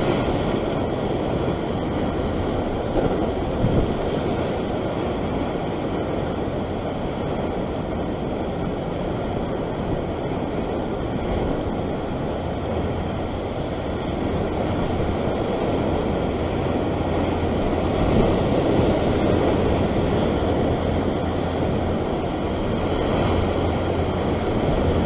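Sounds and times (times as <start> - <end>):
ocean surf breaking on rocks: 0.0 - 25.0
wind buffeting microphone: 0.0 - 25.0.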